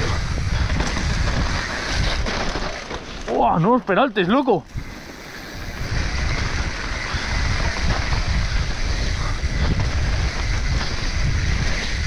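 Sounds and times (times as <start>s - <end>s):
wind rushing over microphone: 0.0s - 3.5s, 4.6s - 12.0s
mountain bike rumble and rattle: 0.0s - 12.0s.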